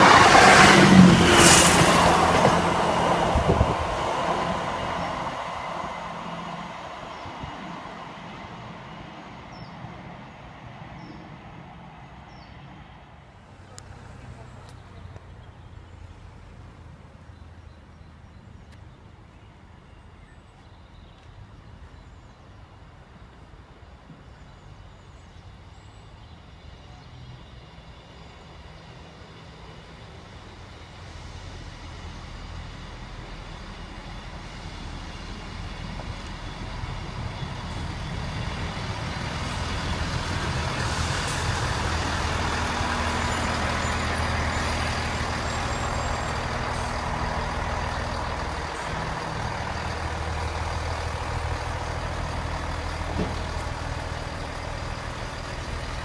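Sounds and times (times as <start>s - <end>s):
diesel train engine hum: 0.0s - 56.0s.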